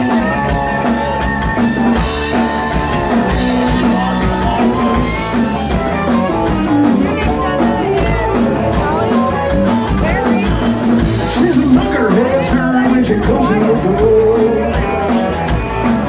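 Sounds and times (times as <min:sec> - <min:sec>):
bass guitar: 0:00.0 - 0:16.0
country rock band playing: 0:00.0 - 0:16.0
drums keeping a steady beat: 0:00.0 - 0:16.0
electric guitar: 0:00.0 - 0:16.0.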